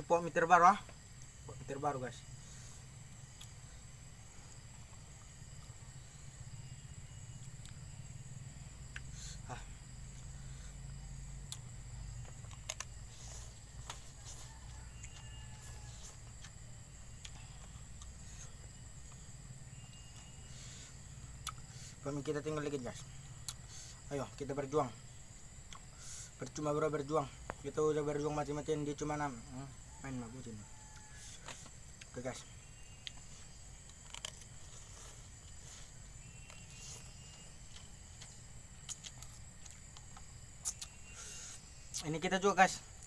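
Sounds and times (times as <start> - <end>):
high-pitched insect drone: 0.0 - 43.0.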